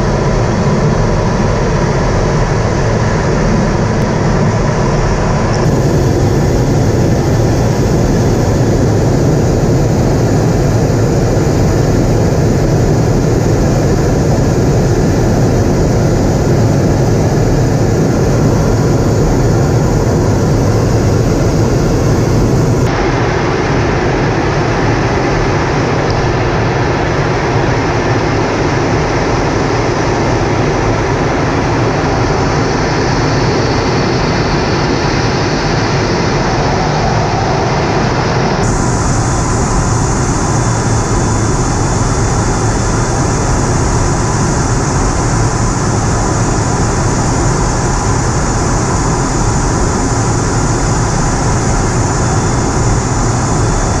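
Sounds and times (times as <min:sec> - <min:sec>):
aircraft cabin engine drone: 0:00.0 - 0:54.0.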